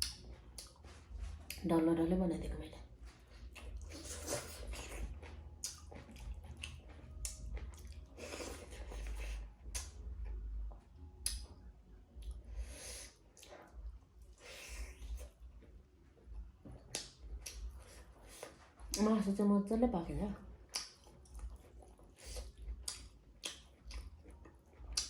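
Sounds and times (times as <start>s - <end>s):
wet chewing and smacking: 0.0s - 1.7s, 2.8s - 19.1s, 20.4s - 25.0s.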